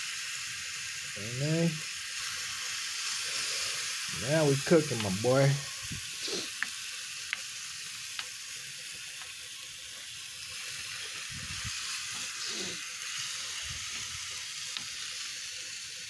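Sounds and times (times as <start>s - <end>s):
rice sizzling on a pan: 0.0s - 16.0s.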